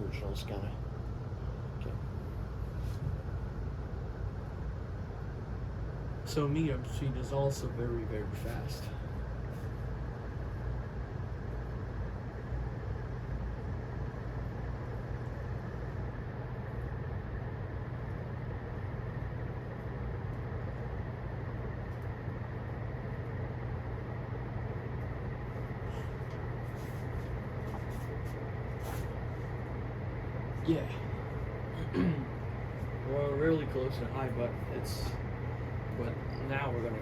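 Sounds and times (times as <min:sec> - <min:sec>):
ceiling fan running: 0:00.0 - 0:37.0.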